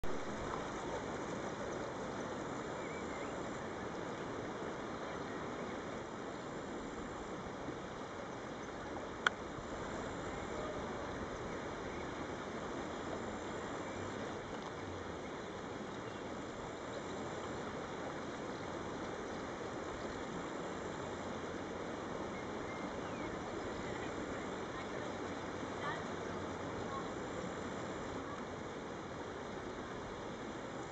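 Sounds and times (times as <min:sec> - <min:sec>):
river running over gravel: 0:00.0 - 0:30.9.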